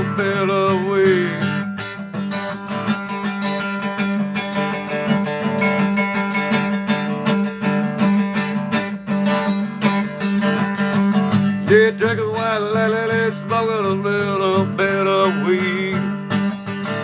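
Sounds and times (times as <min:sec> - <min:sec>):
guitar strumming: 0:00.0 - 0:17.0.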